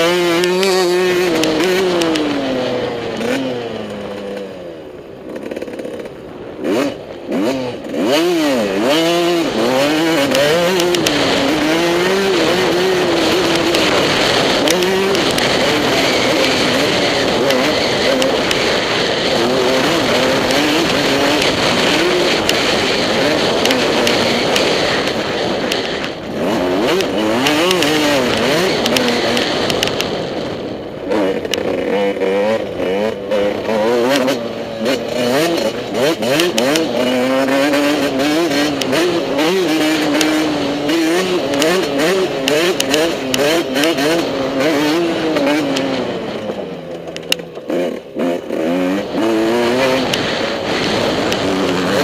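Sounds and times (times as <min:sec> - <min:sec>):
motorbike engine revving: 0:00.0 - 0:52.0.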